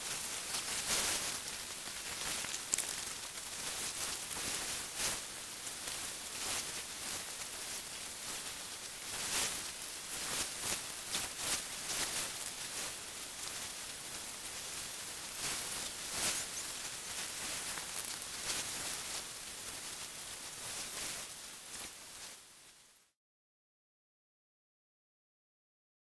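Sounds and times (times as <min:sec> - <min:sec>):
steady hissing with crackles: 0:00.0 - 0:23.2.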